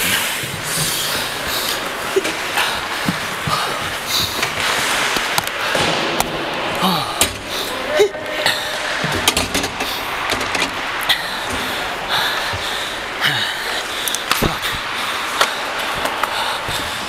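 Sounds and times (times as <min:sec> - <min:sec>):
hockey sticks and puck clacking: 0:00.0 - 0:17.0
skates scraping on ice: 0:00.0 - 0:17.0.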